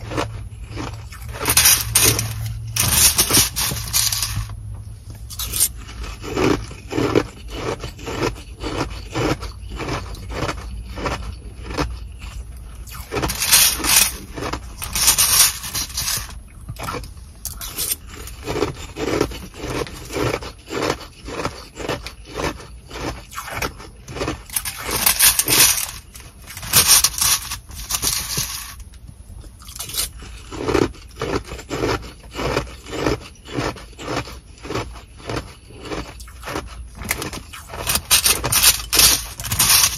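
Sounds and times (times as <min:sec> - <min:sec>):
ice being chewed: 0:00.0 - 0:04.6, 0:05.2 - 0:39.9
plastic spoon scooping ice: 0:00.0 - 0:04.6, 0:05.2 - 0:28.8, 0:29.6 - 0:39.9.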